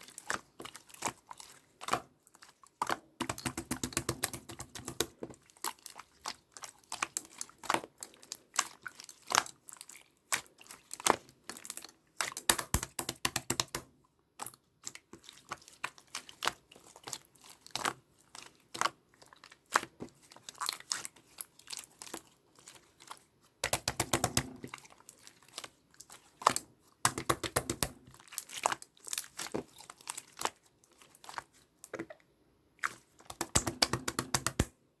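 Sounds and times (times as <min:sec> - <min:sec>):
crinkling and clicking when crumpled: 0:00.0 - 0:32.2.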